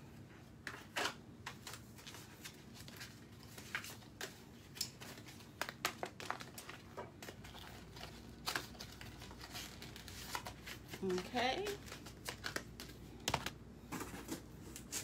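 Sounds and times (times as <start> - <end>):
plastic packaging crinkling: 0.9 - 15.0.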